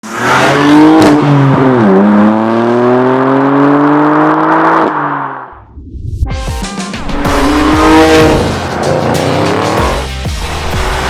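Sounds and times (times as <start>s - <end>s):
car engine accelerating: 0.2s - 11.0s.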